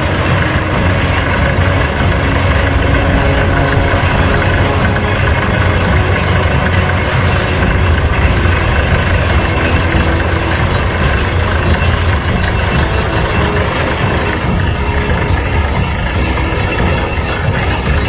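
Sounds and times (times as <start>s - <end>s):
drilling rig engine drone: 0.0s - 18.0s
mud flushing out of bore: 0.0s - 18.0s.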